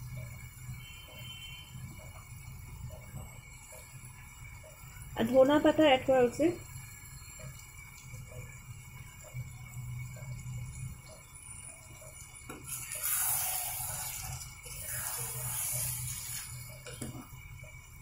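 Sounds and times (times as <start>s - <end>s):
cooking hiss: 0.0s - 18.0s
low steady hum: 0.0s - 18.0s.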